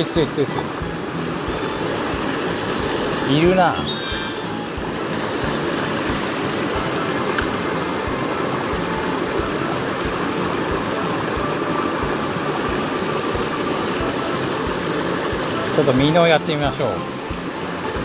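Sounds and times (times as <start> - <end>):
creek rushing over rocks: 0.0 - 18.0.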